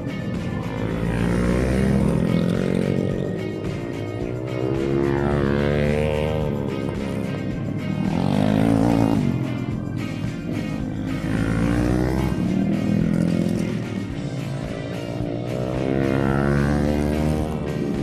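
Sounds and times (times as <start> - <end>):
background music: 0.0 - 18.0
motorcycle engines revving: 0.0 - 18.0.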